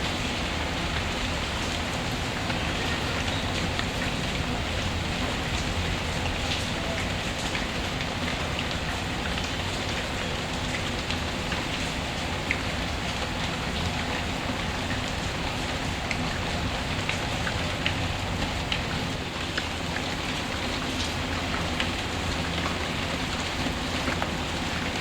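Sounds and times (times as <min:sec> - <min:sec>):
rain hissing: 0:00.0 - 0:25.0
small sharp rain ticks: 0:00.0 - 0:25.0.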